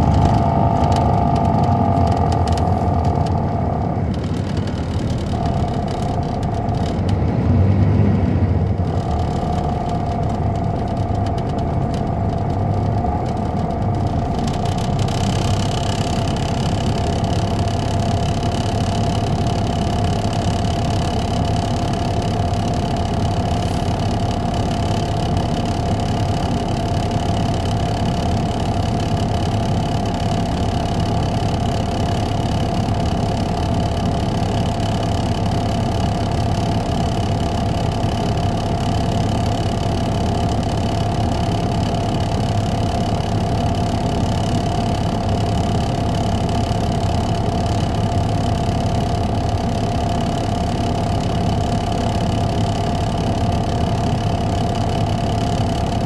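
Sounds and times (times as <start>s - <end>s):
diesel engine low rumble: 0.0s - 56.0s
mid-pitched engine whine: 0.0s - 56.0s.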